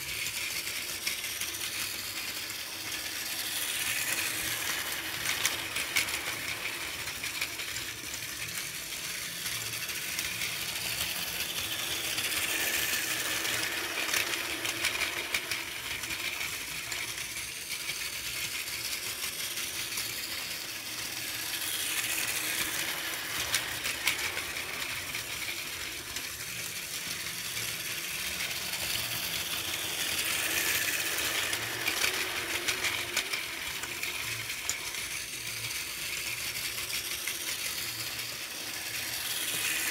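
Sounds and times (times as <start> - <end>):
toy train motor whirring: 0.0 - 39.9
toy train wheels clicking on track: 0.0 - 39.9.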